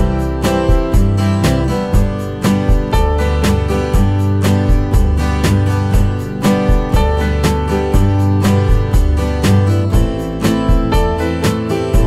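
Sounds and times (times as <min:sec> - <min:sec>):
steady beat: 0:00.0 - 0:12.0
strummed acoustic guitar: 0:00.0 - 0:12.0.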